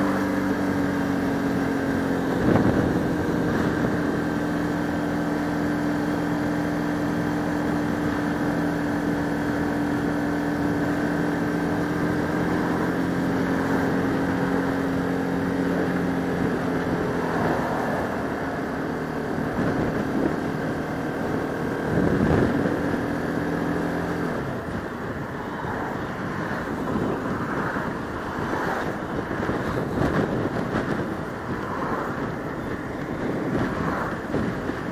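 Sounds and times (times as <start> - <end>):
motorcycle engine cruising: 0.0 - 34.9
wind rush on microphone: 0.0 - 34.9.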